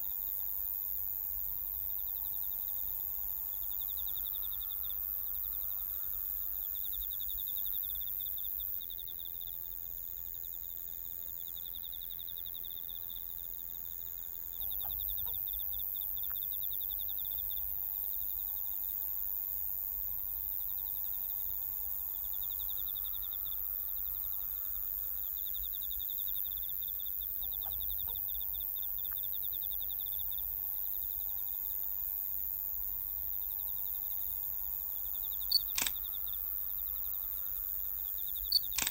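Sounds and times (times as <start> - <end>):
crickets chirping: 0.0 - 38.9
high hiss of outdoor ambience: 0.0 - 38.9.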